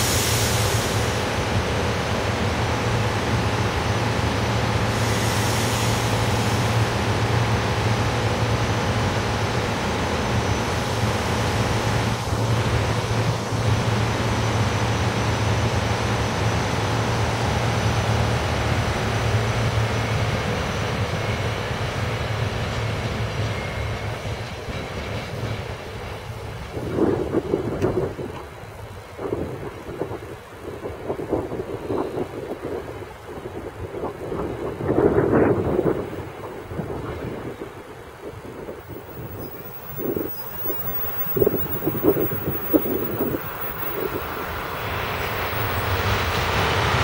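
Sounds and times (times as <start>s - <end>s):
train rumbling past: 0.0s - 47.0s.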